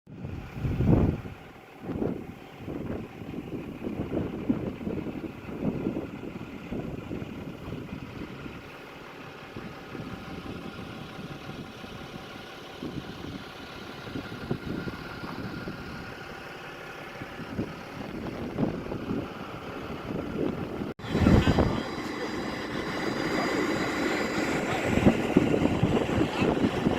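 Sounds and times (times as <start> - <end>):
engine idling with rumbling surges: 0.1 - 26.9.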